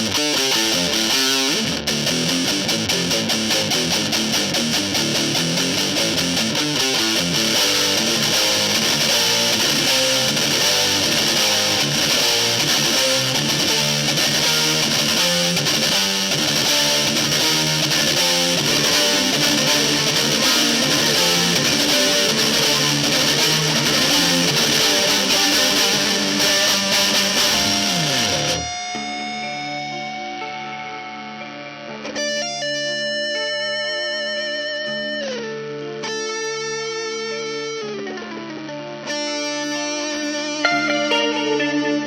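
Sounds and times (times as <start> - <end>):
distorted electric guitar riff: 0.0 - 32.6, 40.6 - 42.0.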